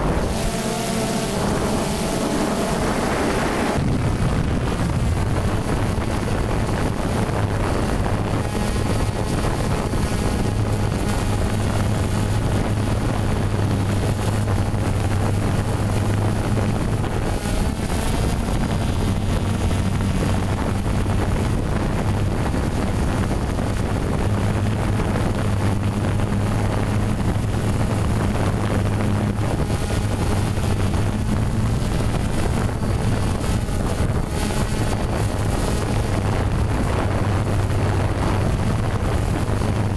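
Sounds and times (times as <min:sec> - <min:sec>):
drone motors humming: 0:00.0 - 0:39.9
wind hiss: 0:00.0 - 0:39.9.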